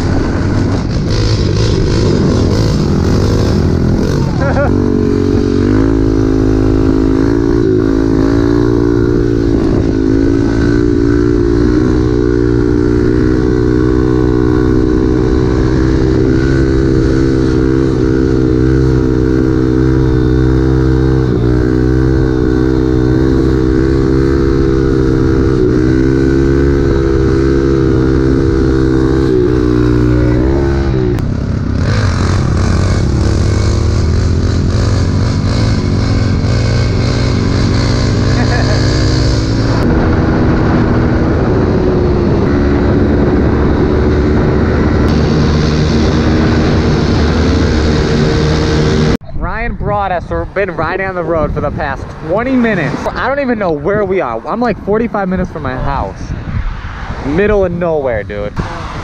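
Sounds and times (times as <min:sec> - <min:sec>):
pit bike engine running: 0:00.0 - 0:56.0.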